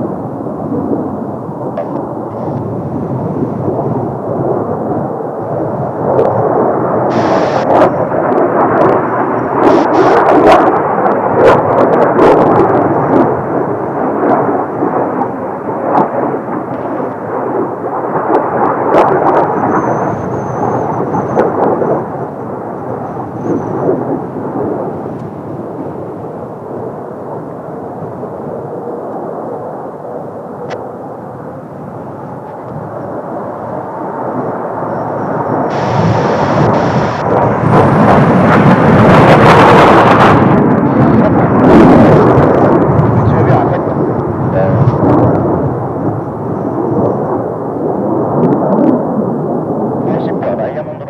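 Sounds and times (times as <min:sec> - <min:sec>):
jet engines rumbling past: 0:00.0 - 0:51.0
wind buffeting microphone: 0:00.0 - 0:51.0.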